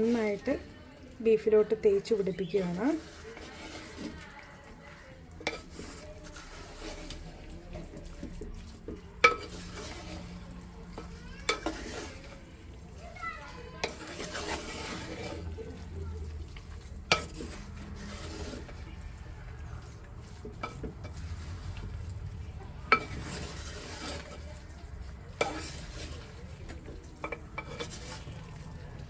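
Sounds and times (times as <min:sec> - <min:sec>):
spatula stirring wet food: 0:00.0 - 0:29.0.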